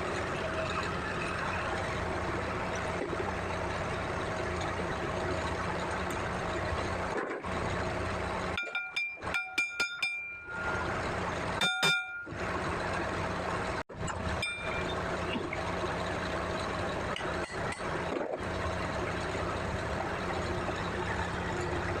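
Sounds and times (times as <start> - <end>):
wheel loader running: 0.0 - 22.0.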